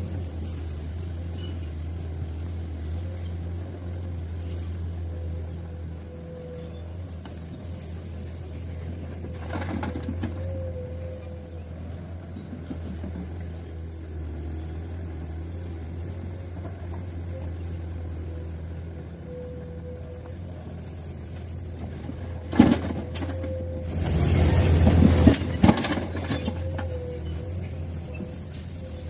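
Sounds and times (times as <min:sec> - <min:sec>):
heavy diesel engine running: 0:00.0 - 0:29.0
thin engine whine: 0:00.0 - 0:29.0.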